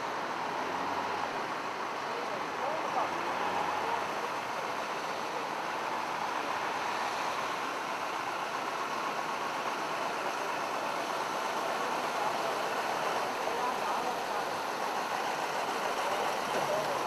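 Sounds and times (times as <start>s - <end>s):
heavy rain: 0.0s - 17.0s
rushing floodwater: 0.0s - 17.0s.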